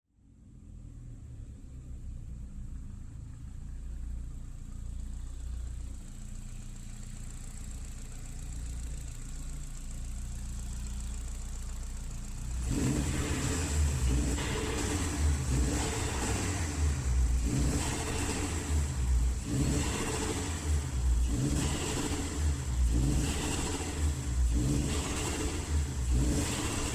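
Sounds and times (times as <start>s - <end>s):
car engine idling and revving: 0.1s - 26.9s.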